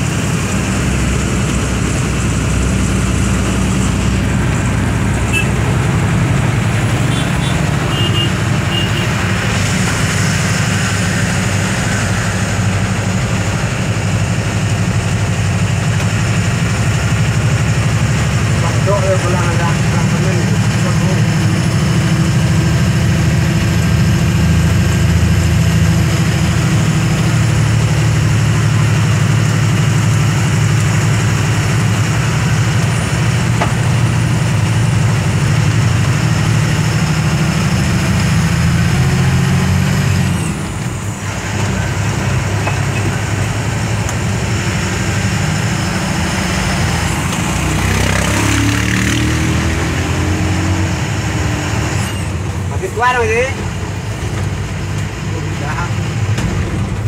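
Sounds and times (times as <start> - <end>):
heavy vehicle engine drone: 0.0 - 57.0.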